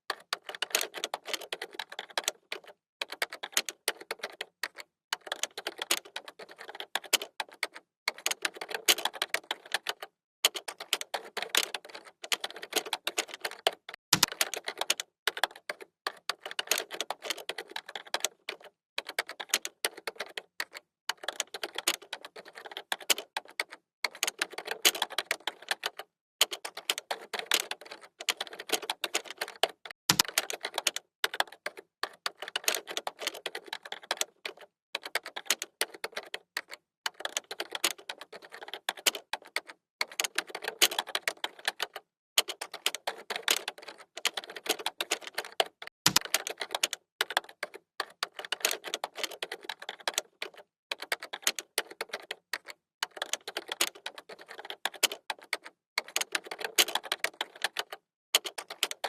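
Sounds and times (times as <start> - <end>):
fast typing on computer keyboard: 0.1 - 59.0.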